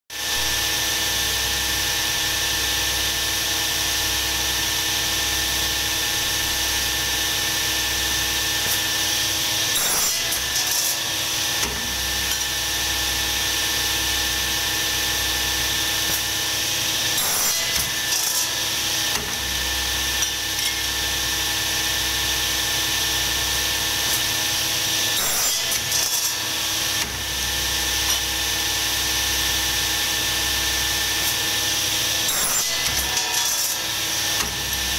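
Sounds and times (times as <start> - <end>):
workshop machine humming: 0.2 - 34.9.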